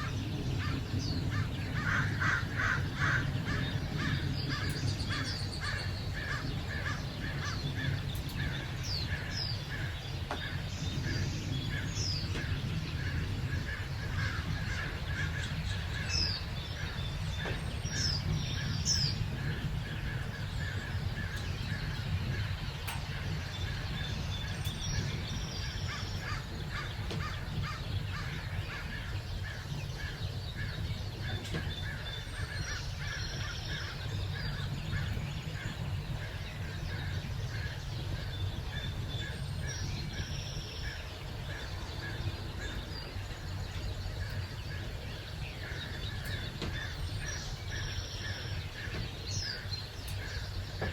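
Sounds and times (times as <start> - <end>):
birds singing and calling: 0.0 - 50.9.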